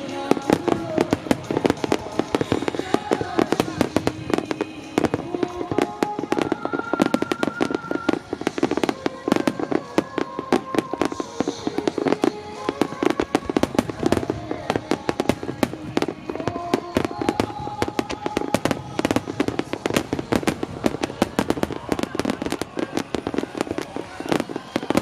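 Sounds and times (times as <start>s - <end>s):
music with long held notes: 0.0s - 25.0s.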